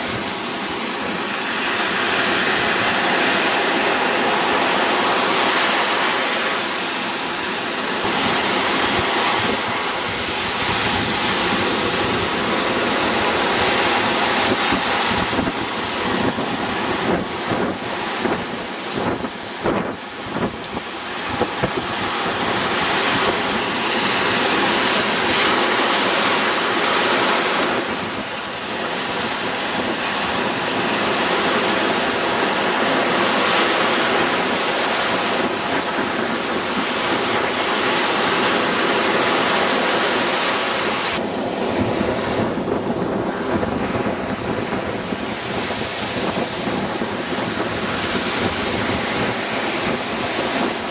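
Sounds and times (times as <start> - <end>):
surf breaking on beach: 0.0 - 50.9
wind buffeting microphone: 0.0 - 50.9.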